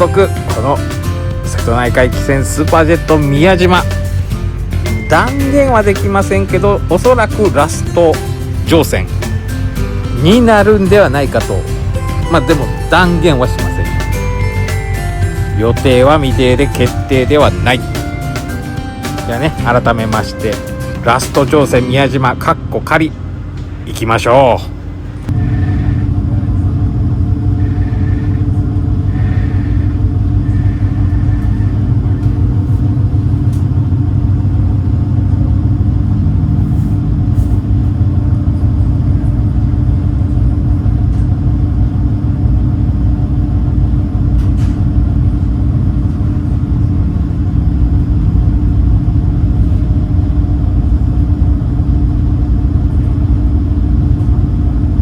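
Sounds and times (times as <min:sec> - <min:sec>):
boat engines rumbling: 0:00.0 - 0:55.0.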